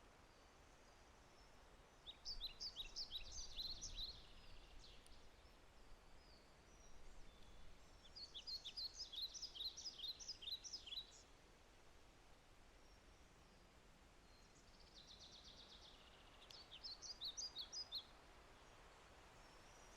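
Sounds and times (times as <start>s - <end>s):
songbird chirping: 0.3s - 11.4s, 12.7s - 19.9s.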